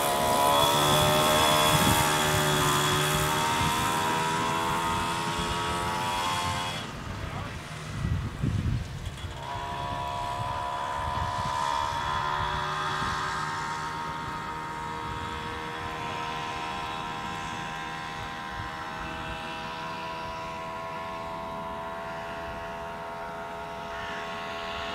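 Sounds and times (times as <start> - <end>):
moped engine buzzing: 0.0 - 24.9.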